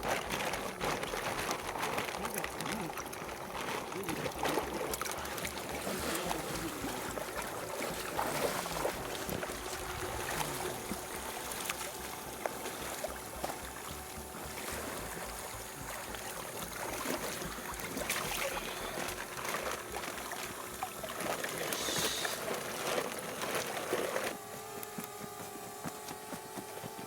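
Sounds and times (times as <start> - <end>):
steady hum: 0.0 - 27.0
water splashing and sloshing: 0.0 - 27.0.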